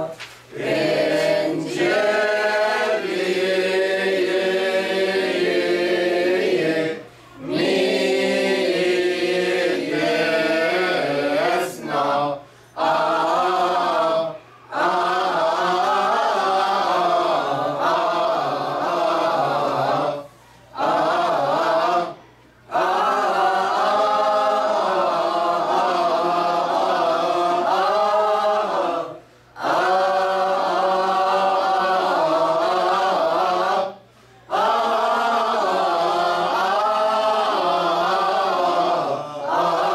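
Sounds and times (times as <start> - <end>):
group singing a hymn unaccompanied: 0.0 - 39.9.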